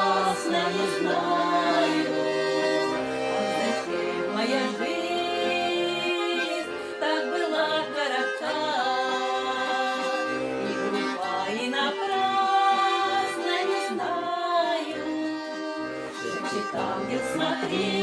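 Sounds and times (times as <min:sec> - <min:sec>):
voices singing along: 0:00.0 - 0:15.2, 0:16.2 - 0:18.0
accordion playing folk song: 0:00.0 - 0:18.0.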